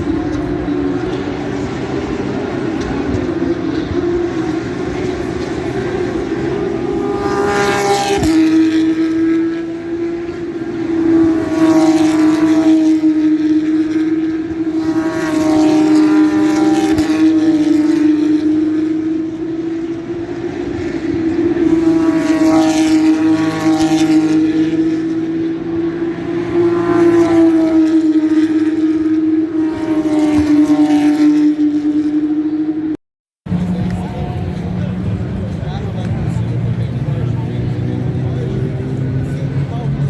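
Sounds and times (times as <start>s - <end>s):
racing cars passing at speed: 0.0s - 40.0s
steady engine drone: 0.0s - 40.0s.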